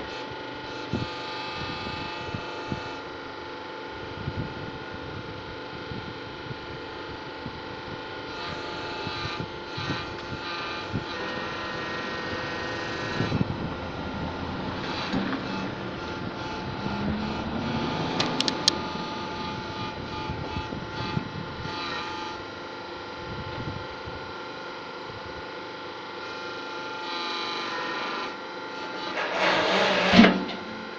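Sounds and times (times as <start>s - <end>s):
hydraulic machine hum: 0.0s - 30.9s.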